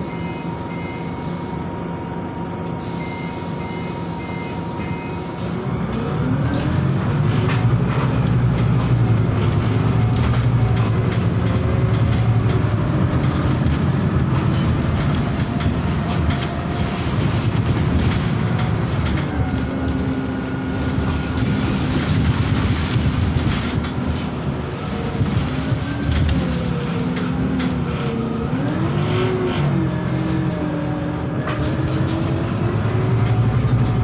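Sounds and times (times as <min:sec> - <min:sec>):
bus engine and road drone: 0:00.0 - 0:34.0.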